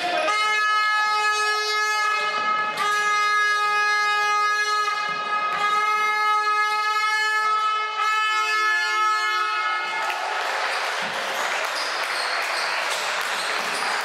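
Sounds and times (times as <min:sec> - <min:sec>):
hubbub of voices in hall: 0:00.0 - 0:14.0
scoreboard horn buzz: 0:00.0 - 0:14.0.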